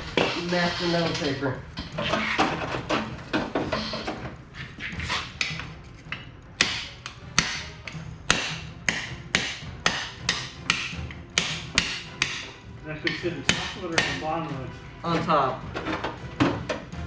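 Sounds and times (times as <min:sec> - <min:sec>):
hammer strikes: 0:00.0 - 0:17.0.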